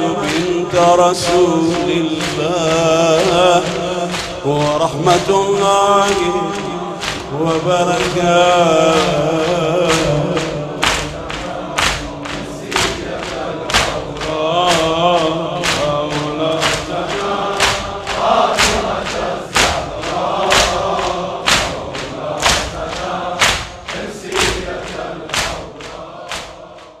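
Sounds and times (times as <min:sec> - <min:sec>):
group of voices chanting: 0:00.0 - 0:27.0
sharp rhythmic strokes: 0:00.0 - 0:27.0.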